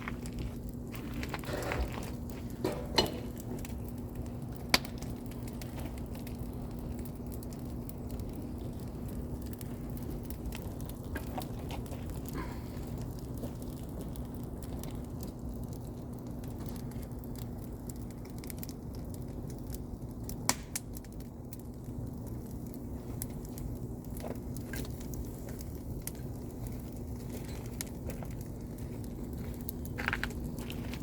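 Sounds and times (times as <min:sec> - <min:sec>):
campfire crackling and popping: 0:00.0 - 0:31.0
sharp snap of burning wood: 0:00.0 - 0:31.0.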